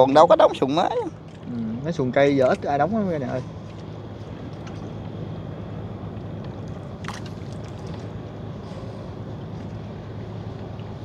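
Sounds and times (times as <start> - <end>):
boat motor running: 0.0 - 11.0
hiss of water and wind: 0.0 - 11.0.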